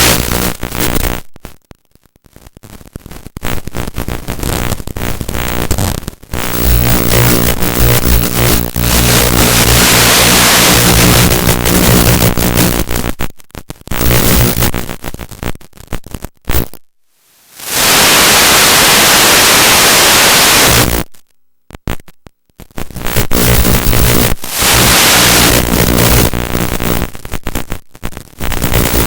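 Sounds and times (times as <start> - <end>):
loud static hiss: 0.0 - 29.0.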